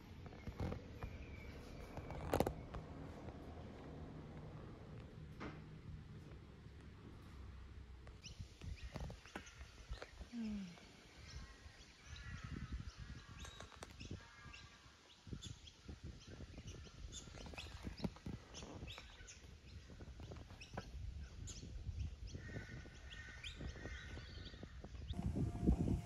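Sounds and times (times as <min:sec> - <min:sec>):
birds chirping: 0:00.0 - 0:03.8, 0:08.1 - 0:25.2.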